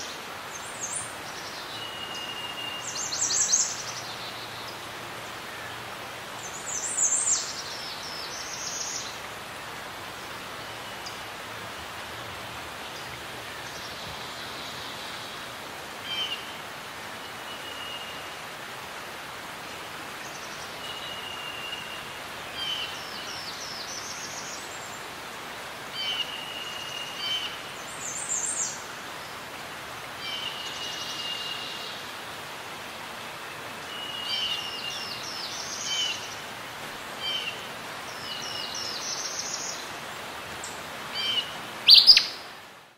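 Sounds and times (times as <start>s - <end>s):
steady background hiss: 0.0s - 42.9s.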